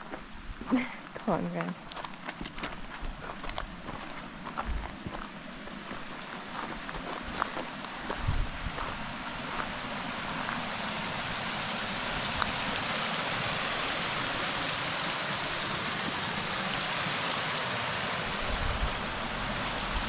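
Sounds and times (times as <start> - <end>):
creek and waterfall rushing: 3.3 - 20.0.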